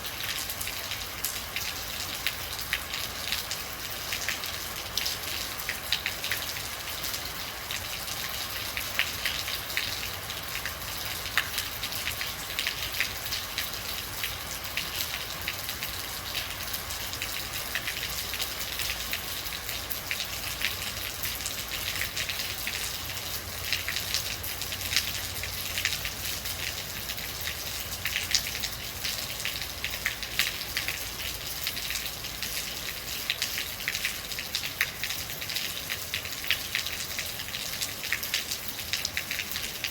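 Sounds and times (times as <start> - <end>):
rain drops pattering: 0.0 - 39.9
rain hiss: 0.0 - 39.9.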